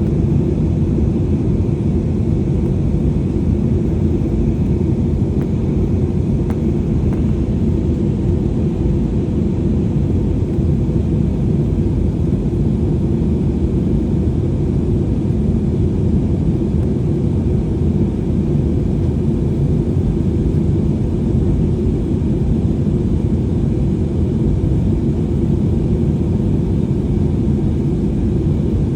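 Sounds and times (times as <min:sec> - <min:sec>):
airliner cabin rumble: 0:00.0 - 0:28.9.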